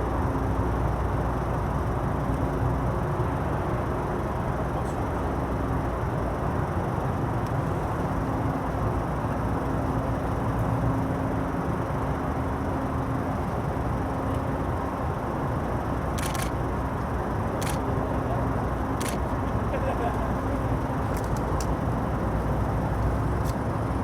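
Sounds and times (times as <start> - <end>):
low machinery rumble: 0.0 - 24.0.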